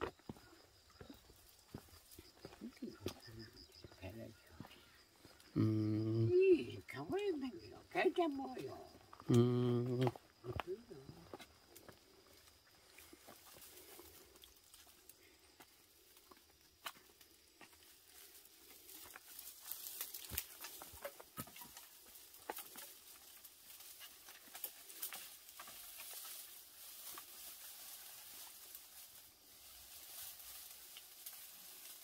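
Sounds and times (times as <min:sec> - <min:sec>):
dry stalks rustling and crackling: 0:00.0 - 0:05.5, 0:10.1 - 0:32.0.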